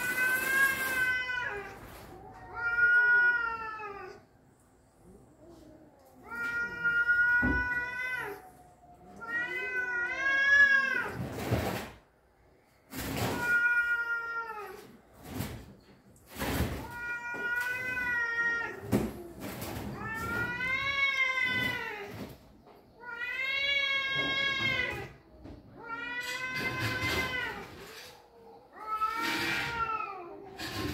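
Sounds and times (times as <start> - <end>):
cats yowling: 0.0 - 4.4, 5.0 - 11.5, 12.9 - 15.0, 16.3 - 22.3, 23.0 - 30.9.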